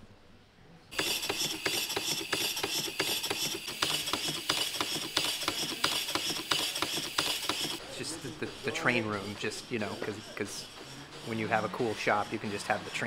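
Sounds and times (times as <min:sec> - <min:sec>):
model steam engine clicking: 0:00.9 - 0:13.0.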